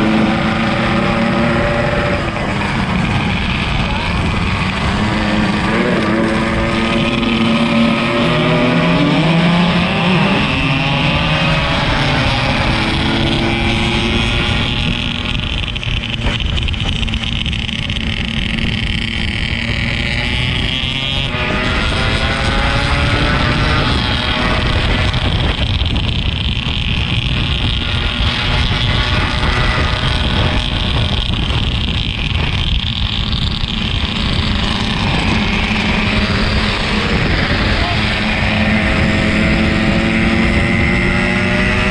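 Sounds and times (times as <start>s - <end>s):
riding noise rushing: 0.0s - 20.7s, 21.3s - 41.9s
motorcycle engine running: 0.0s - 41.9s.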